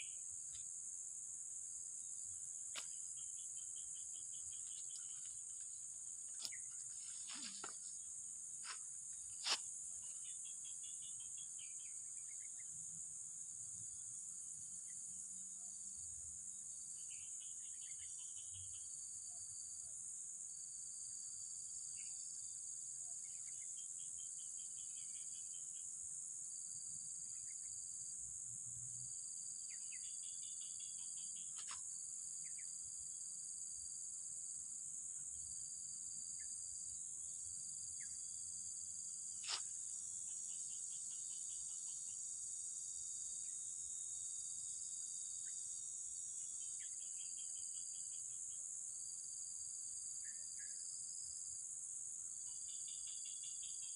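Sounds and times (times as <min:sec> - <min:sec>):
insects chorus: 0:00.0 - 0:53.9.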